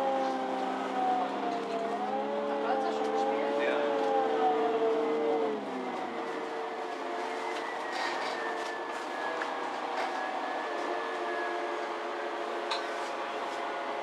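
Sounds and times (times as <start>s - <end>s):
bus engine hum: 0.0s - 14.0s.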